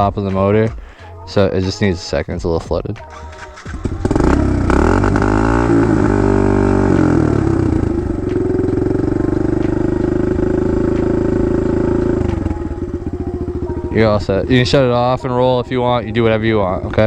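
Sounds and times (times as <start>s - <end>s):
dirt bike engine revving and idling: 2.4s - 17.0s.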